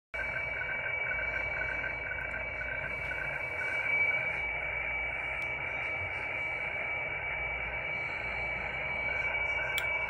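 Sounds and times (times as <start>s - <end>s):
steady high radio tone: 0.2s - 10.0s.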